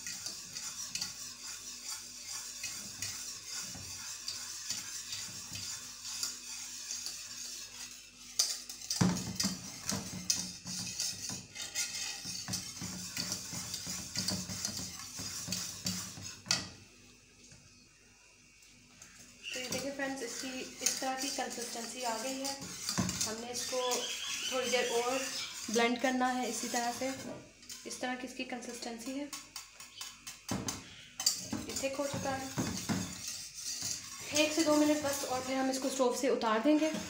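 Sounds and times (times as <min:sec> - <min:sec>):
whisk scraping a saucepan: 0:00.0 - 0:16.8, 0:19.0 - 0:37.0.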